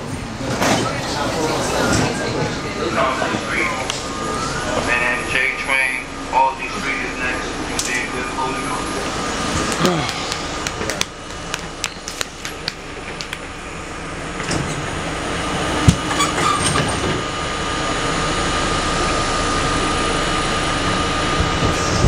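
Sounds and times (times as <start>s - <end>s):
subway train rumble and rattle: 0.0s - 22.0s
thin train whine: 0.0s - 22.0s.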